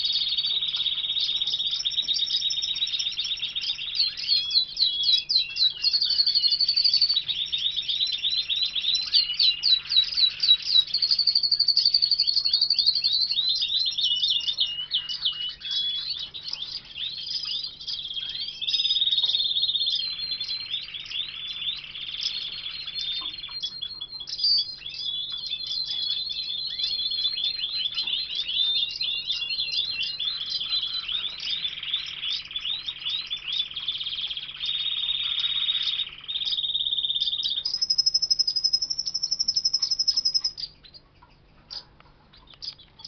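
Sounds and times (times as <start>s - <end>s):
canaries singing: 0.0s - 43.0s.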